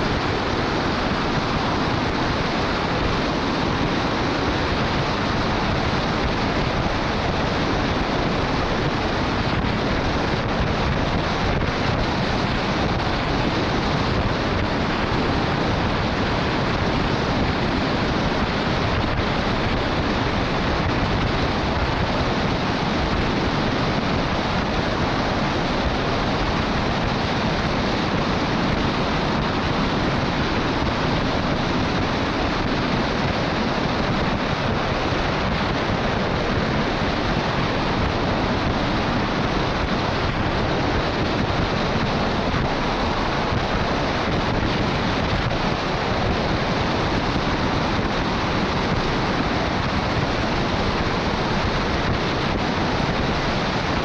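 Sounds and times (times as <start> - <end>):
wind rushing: 0.0 - 54.0.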